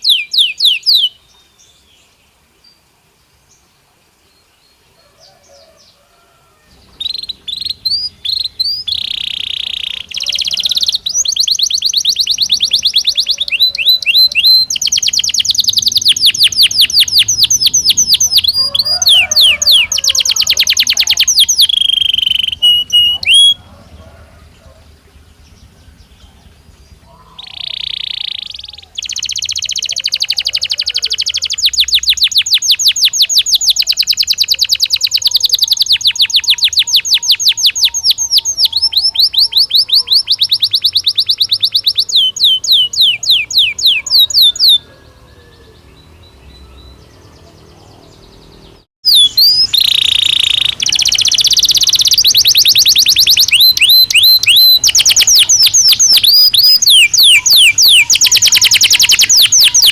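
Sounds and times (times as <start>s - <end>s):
canary singing trills: 0.0s - 2.0s, 5.0s - 59.9s.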